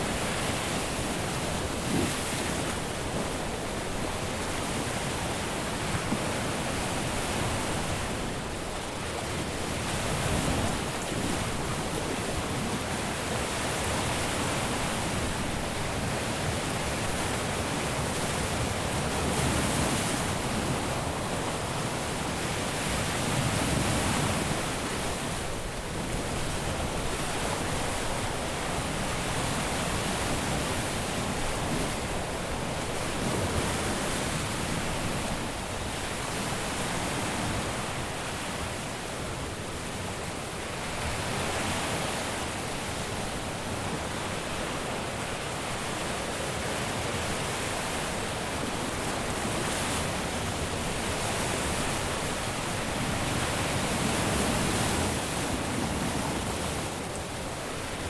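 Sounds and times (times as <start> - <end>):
surf breaking on a beach: 0.0 - 58.0.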